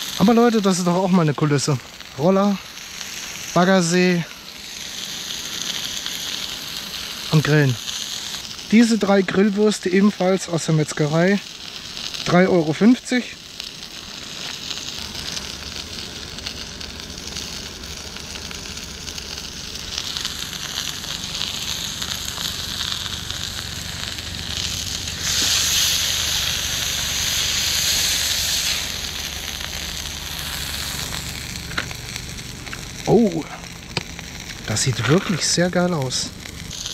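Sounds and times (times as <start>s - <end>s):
meat sizzling in oil: 0.0s - 36.9s.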